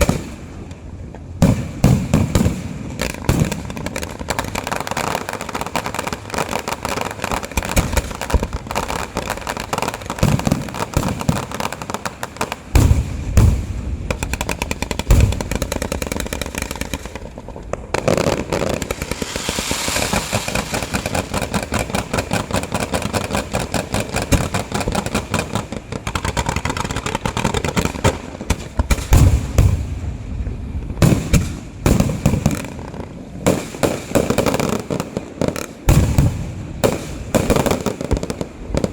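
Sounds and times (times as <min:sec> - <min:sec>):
firecrackers crackling: 0:00.0 - 0:38.9
fireworks booming: 0:00.0 - 0:38.9.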